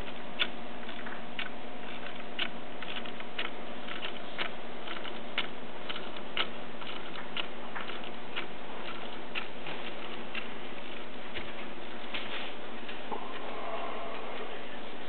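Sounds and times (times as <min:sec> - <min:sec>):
wooden clock ticking: 0:00.0 - 0:12.1.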